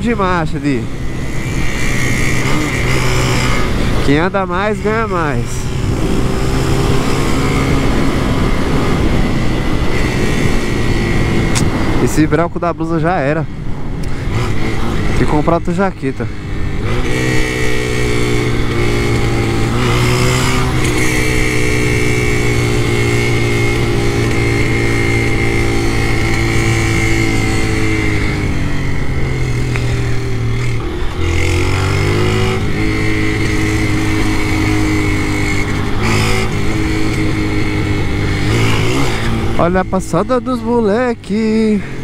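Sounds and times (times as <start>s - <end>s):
small motorcycle engine running: 0.0s - 12.2s, 14.0s - 42.0s.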